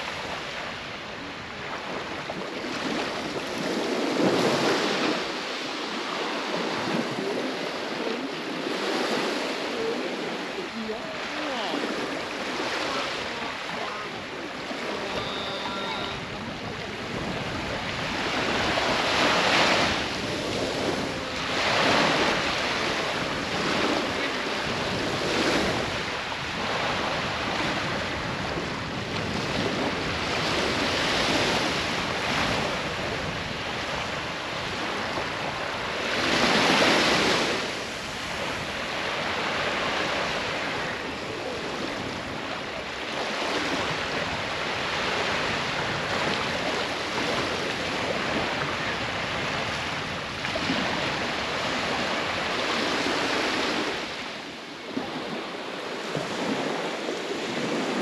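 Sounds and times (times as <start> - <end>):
small waves washing on beach: 0.0 - 58.0.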